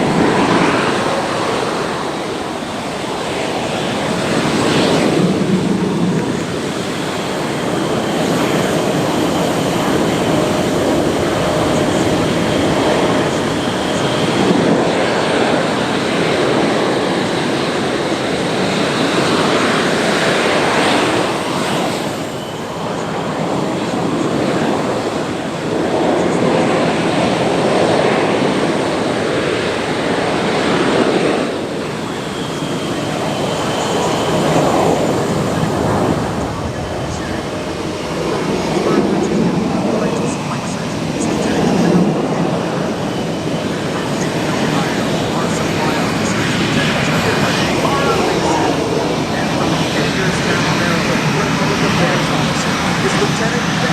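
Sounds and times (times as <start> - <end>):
high turbine whine: 0.0 - 53.9
jet engines roaring: 0.0 - 53.9.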